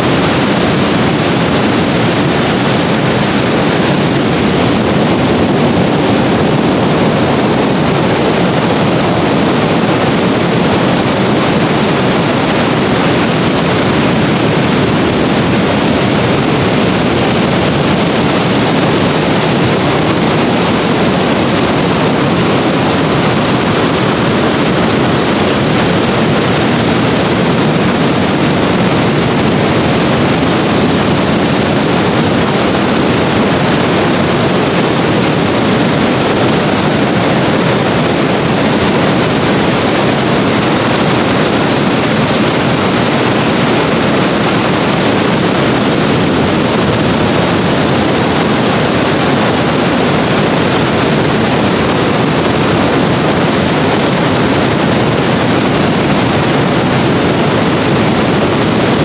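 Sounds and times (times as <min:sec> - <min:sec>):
ocean surf on beach: 0:00.0 - 0:59.0.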